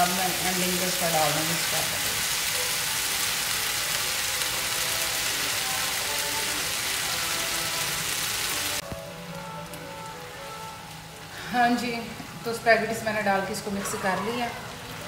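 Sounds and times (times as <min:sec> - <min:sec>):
faint background music: 0:00.0 - 0:15.0
food sizzling in a frying pan: 0:00.0 - 0:15.0.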